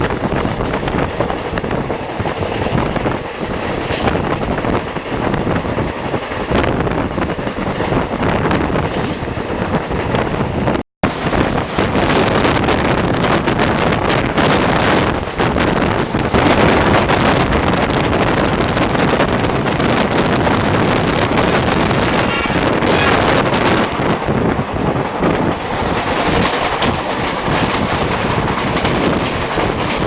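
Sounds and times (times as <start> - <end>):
train wheels rumbling on track: 0.0 - 30.0
wind buffeting microphone: 0.0 - 30.0.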